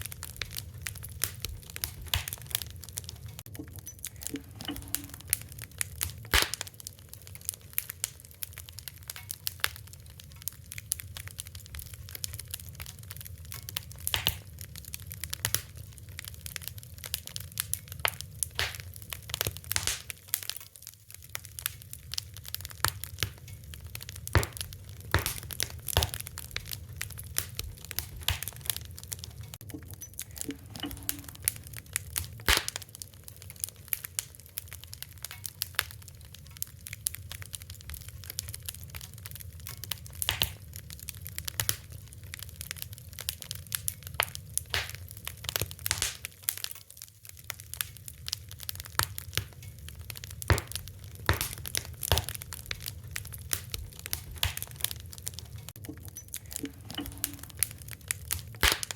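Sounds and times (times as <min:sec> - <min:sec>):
fire crackling and popping: 0:00.0 - 0:58.9.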